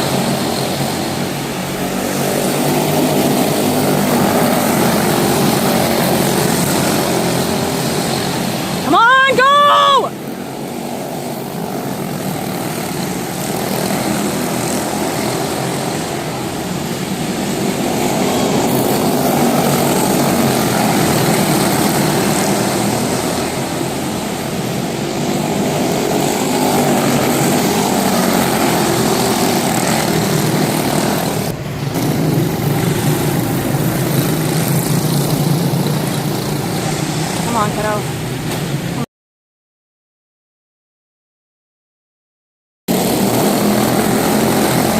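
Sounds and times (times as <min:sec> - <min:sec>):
racing engines at high revs: 0:00.0 - 0:39.0, 0:42.9 - 0:44.9.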